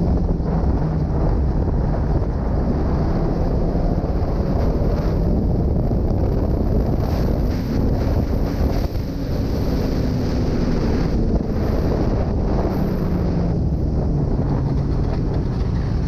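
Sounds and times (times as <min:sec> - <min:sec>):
snowmobile engine revving: 0:00.0 - 0:16.0
wind buffeting microphone: 0:00.0 - 0:16.0.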